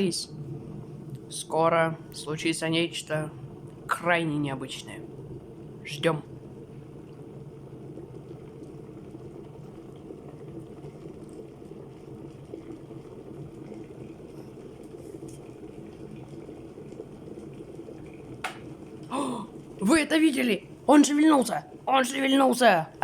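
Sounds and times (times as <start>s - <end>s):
electric kettle heating water: 0.0s - 23.0s.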